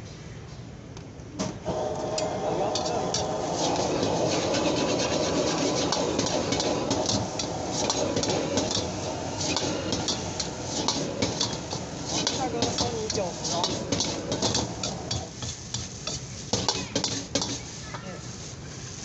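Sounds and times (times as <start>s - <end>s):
gas burner rushing: 1.4s - 19.0s
rice frying: 1.6s - 19.0s
metal ladle scraping wok: 2.2s - 19.0s.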